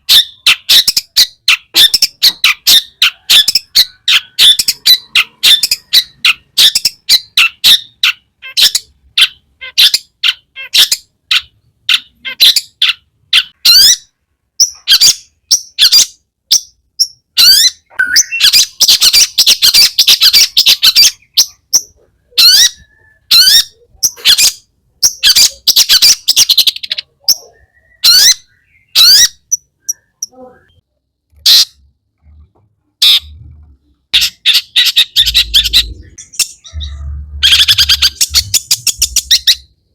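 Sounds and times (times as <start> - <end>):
bird chattering song: 0.0 - 30.8, 34.0 - 39.9.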